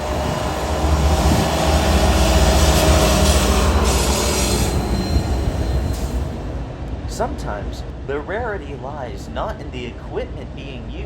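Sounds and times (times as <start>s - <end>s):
train wheels on rails: 0.0s - 10.6s
locomotive engine rumble: 0.0s - 11.0s.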